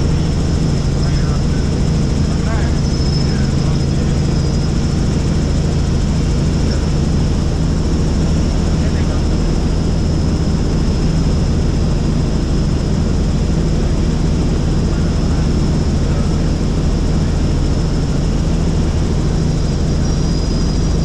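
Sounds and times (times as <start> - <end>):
helicopter rotor and engine drone: 0.0 - 21.0
high steady whine: 0.0 - 21.0.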